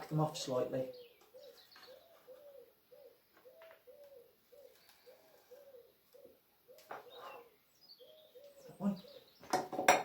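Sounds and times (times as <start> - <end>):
dove cooing: 0.9 - 9.3.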